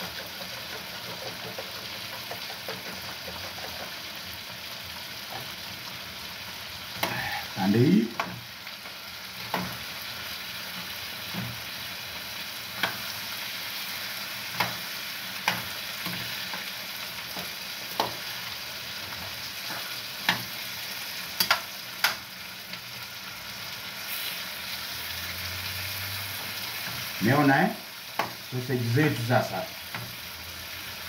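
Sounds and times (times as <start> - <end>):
food sizzling in frying pan: 0.0 - 31.0.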